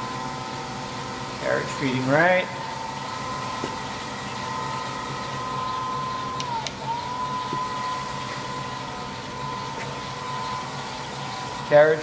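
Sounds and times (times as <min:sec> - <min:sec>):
lathe whining: 0:00.0 - 0:12.0.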